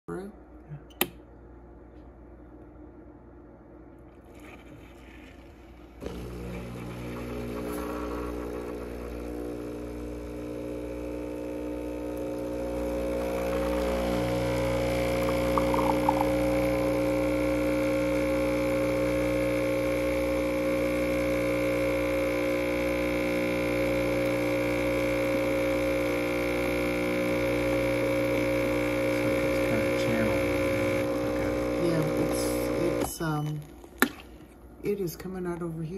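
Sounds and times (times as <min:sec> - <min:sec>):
espresso machine pump humming: 0:04.1 - 0:33.6.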